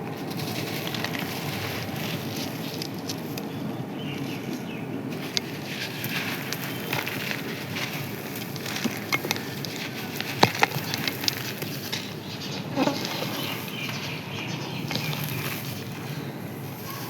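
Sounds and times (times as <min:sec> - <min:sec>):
sand crust crunching: 0:00.0 - 0:17.0.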